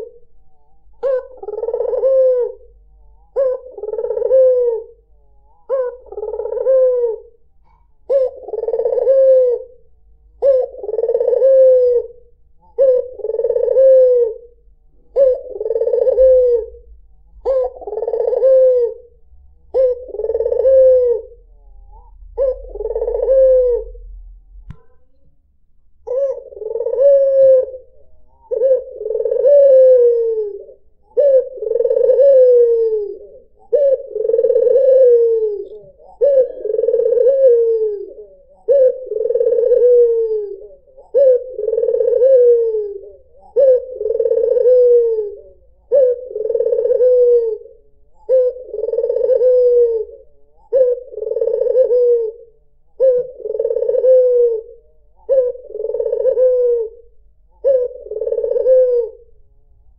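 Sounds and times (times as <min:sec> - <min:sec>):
dove cooing: 0:00.0 - 0:25.2, 0:26.0 - 0:59.4.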